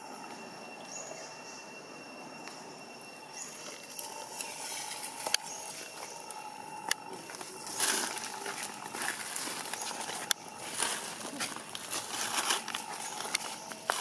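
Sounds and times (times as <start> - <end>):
high-pitched hum: 0.0 - 14.0.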